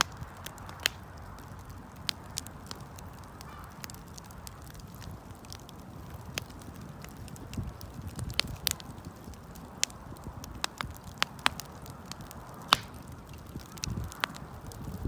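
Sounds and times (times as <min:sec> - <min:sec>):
bonfire pops and snaps: 0:00.0 - 0:15.0
low rumble of burning fire: 0:00.0 - 0:15.0.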